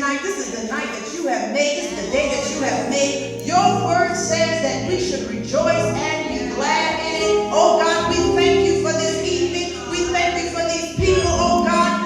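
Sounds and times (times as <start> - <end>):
gospel singing: 1.6 - 12.0
instrumental accompaniment: 1.8 - 12.0
low bass note: 1.9 - 12.0.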